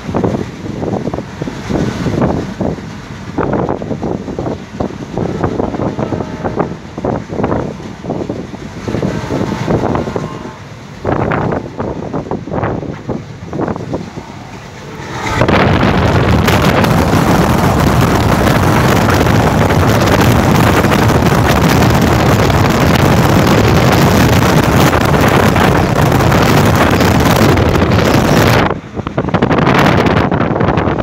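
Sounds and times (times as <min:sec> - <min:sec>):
train running noise: 0:00.0 - 0:31.0
wind buffeting microphone: 0:00.0 - 0:31.0.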